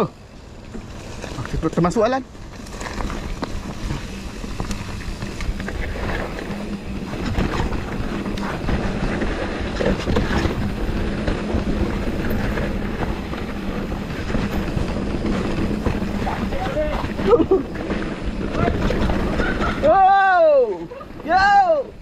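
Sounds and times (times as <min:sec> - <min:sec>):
bike rattling and clicking: 0:00.0 - 0:22.0
tyres rumbling over dirt: 0:00.0 - 0:22.0
wind buffeting microphone: 0:00.5 - 0:22.0.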